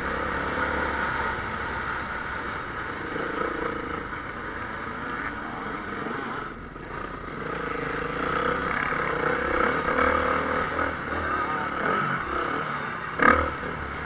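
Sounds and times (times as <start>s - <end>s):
motocross engines running hard: 0.0s - 14.0s.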